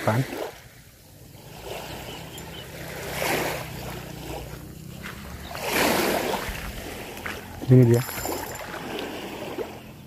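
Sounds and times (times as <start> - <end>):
small waves lapping on sand: 0.0 - 10.0.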